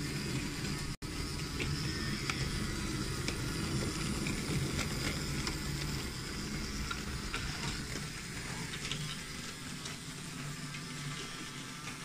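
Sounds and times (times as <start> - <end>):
toy train motor rumbling: 0.0 - 12.0.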